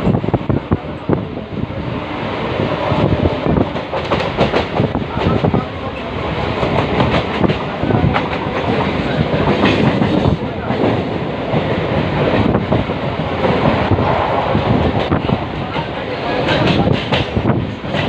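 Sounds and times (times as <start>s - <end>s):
train rumbling and rattling: 0.0s - 18.0s.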